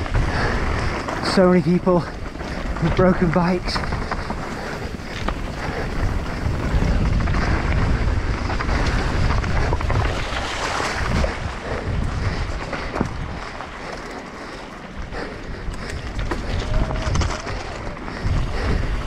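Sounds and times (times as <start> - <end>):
bike tyres rumbling over stones: 0.0 - 19.0
wind buffeting microphone: 0.0 - 19.0.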